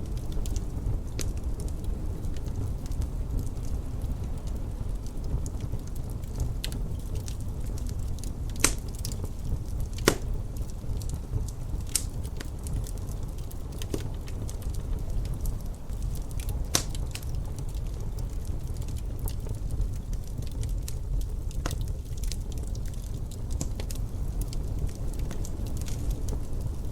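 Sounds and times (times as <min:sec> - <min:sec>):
low rumble of wind: 0:00.0 - 0:26.9
wood fire crackling: 0:00.0 - 0:26.9
sharp pops of fire: 0:00.1 - 0:15.2, 0:15.9 - 0:26.9.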